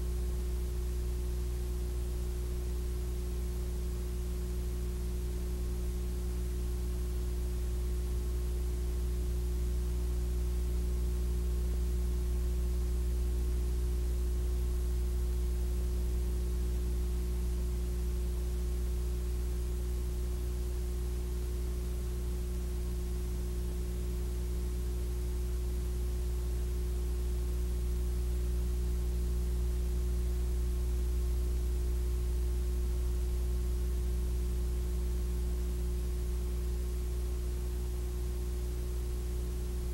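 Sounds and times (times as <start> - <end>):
low electrical hum with hiss: 0.0 - 39.9.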